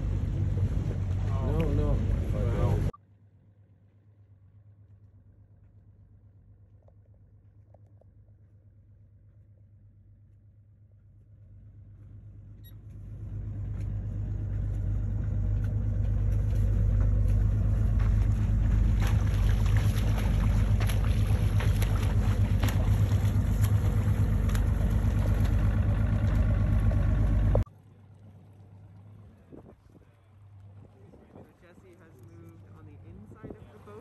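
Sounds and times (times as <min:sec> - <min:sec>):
motorboat engine humming: 0:00.0 - 0:34.0.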